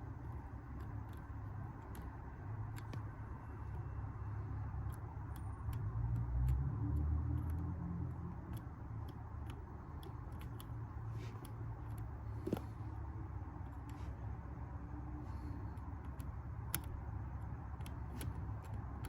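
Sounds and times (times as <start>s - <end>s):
faint regular ticking: 0.0s - 19.0s.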